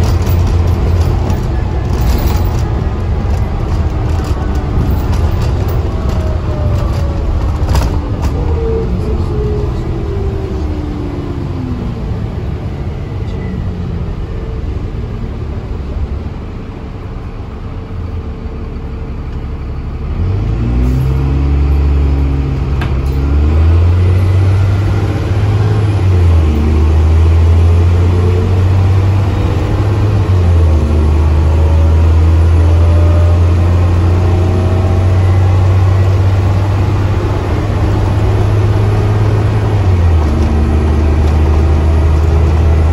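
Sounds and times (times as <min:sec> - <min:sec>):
bus engine drone: 0:00.0 - 0:42.9.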